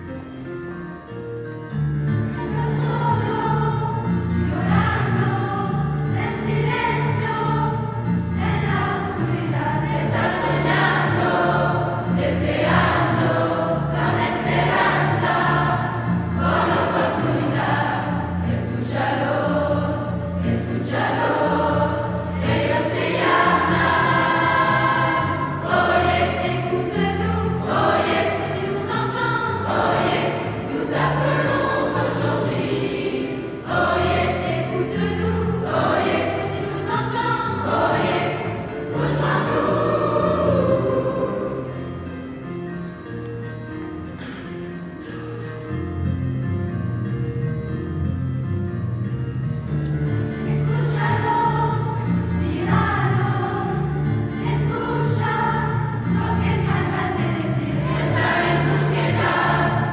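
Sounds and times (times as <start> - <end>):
mixed choir singing: 2.3 - 42.6, 50.4 - 59.9.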